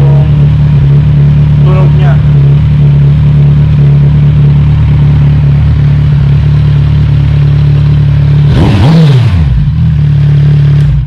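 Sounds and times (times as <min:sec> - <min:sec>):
motorcycle engine idling loudly: 0:00.0 - 0:11.0.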